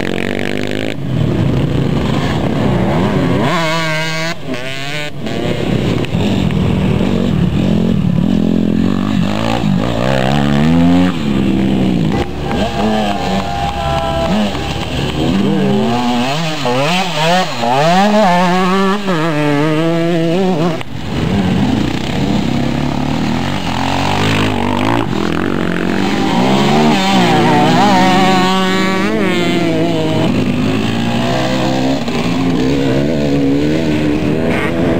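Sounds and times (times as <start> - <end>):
motorcycle engines revving: 0.0 - 34.9.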